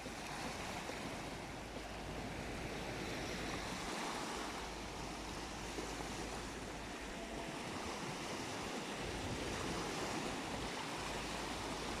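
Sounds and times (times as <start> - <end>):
sea waves breaking on shore: 0.0 - 12.0
wind buffeting the microphone: 0.0 - 12.0.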